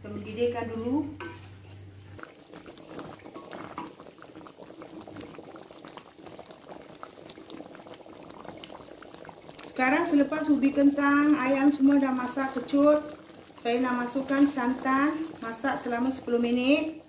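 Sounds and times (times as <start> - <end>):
gravy bubbling at the boil: 1.3 - 17.0.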